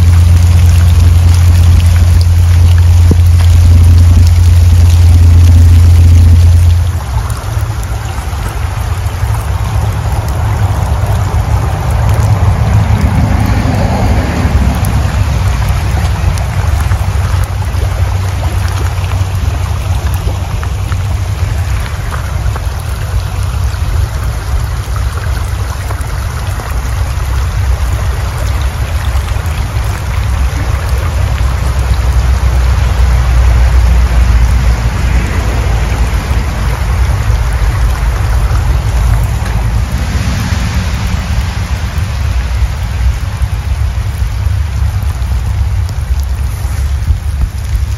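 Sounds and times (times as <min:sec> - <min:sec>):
deep low rumble: 0:00.0 - 0:47.9
floodwater rushing: 0:00.0 - 0:47.9.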